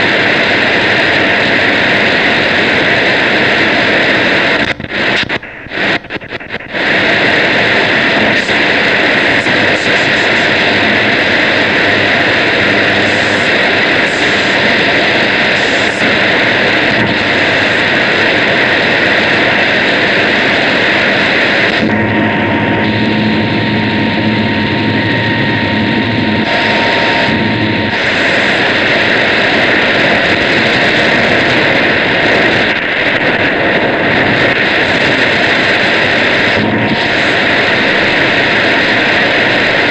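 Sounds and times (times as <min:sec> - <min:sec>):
radio static: 0:00.0 - 0:39.9.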